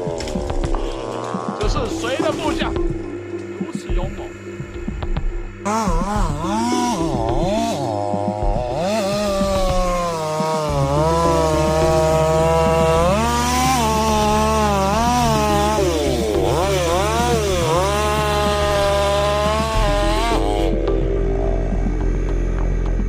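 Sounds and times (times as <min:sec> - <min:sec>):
chainsaw cutting wood: 0:00.0 - 0:03.4, 0:05.6 - 0:20.9
steady low drone: 0:00.0 - 0:23.0.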